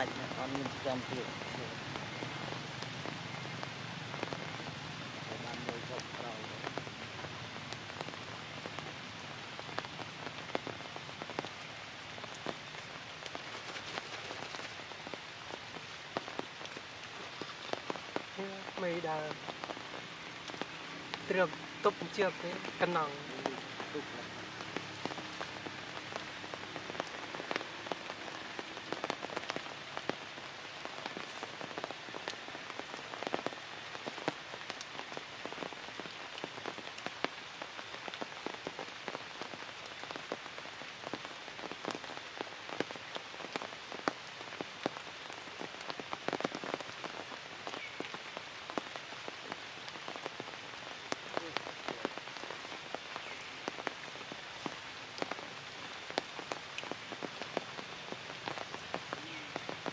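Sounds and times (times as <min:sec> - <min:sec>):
rain falling through foliage: 0:00.0 - 0:59.9
raindrops tapping close by: 0:00.0 - 0:59.9.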